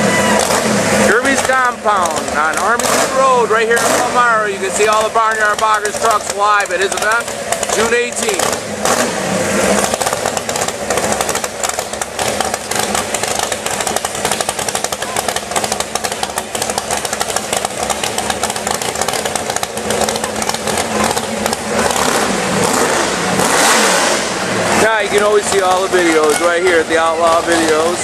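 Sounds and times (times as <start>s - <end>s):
truck engine revving high: 0.0s - 28.0s.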